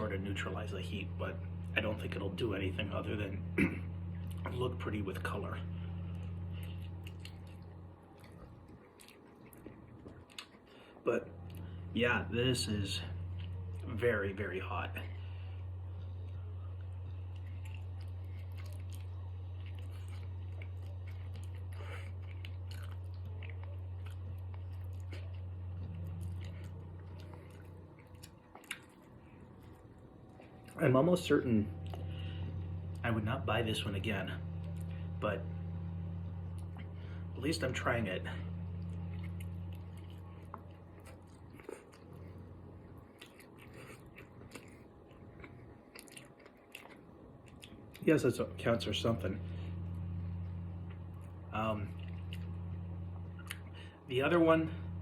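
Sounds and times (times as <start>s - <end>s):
low hum: 0.0s - 55.0s
person chewing noodles: 5.2s - 12.0s, 13.0s - 33.1s, 34.4s - 37.4s, 38.4s - 48.0s, 49.4s - 54.0s.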